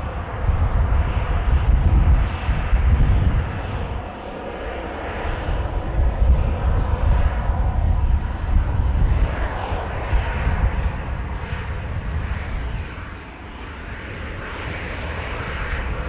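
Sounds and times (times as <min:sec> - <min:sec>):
jet engines at takeoff power: 0:00.0 - 0:16.0
wind rumbling on microphone: 0:00.0 - 0:16.0.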